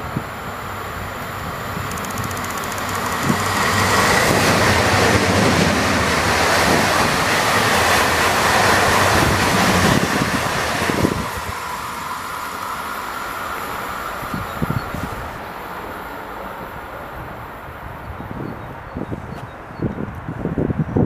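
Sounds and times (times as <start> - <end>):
train wheels and air rushing: 0.0 - 21.0.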